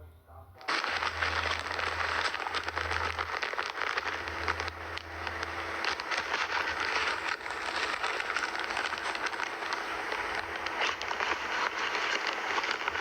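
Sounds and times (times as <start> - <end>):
packaging crinkling: 0.6 - 13.0.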